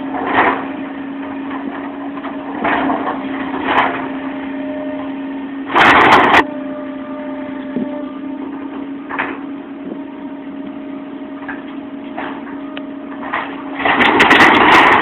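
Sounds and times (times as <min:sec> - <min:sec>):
demolition machinery engine running: 0:00.0 - 0:15.0.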